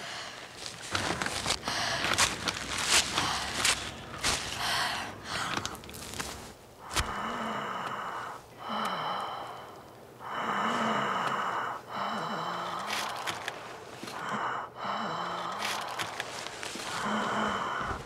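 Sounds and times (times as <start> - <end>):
person wheezing breathing: 0.0 - 18.0.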